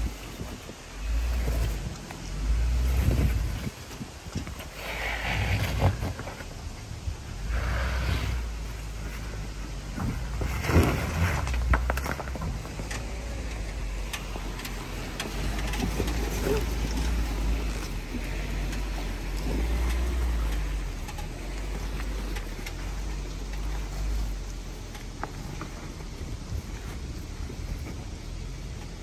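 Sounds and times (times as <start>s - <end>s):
car engine low rumble: 0.0s - 29.0s.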